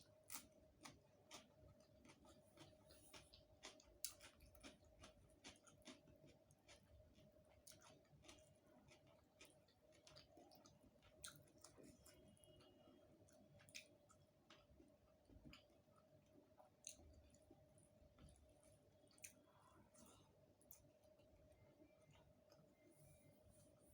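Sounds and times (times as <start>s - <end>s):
close-miked chewing: 0.0s - 23.9s
faint steady hum: 0.0s - 23.9s.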